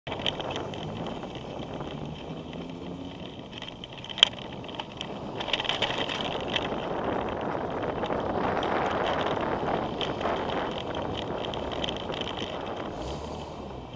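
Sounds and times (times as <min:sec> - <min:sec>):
bicycle road noise: 0:00.0 - 0:13.9
wind buffeting: 0:00.1 - 0:13.9.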